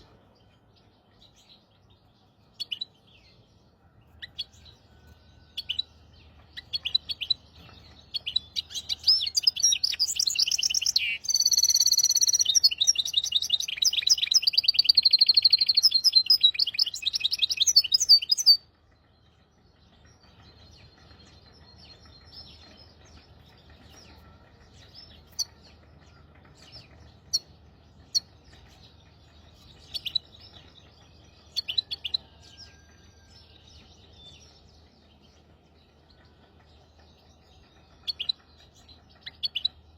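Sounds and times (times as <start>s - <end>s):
finch singing trills and chirps: 0.0s - 39.9s.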